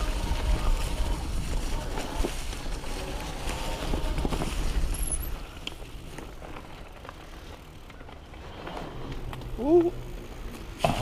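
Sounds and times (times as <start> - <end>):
bike rolling and drivetrain noise: 0.0 - 11.0.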